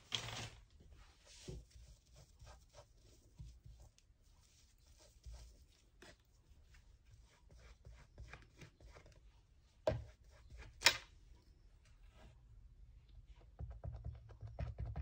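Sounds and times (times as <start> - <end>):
rubbing and rustling by hand: 0.0 - 12.4.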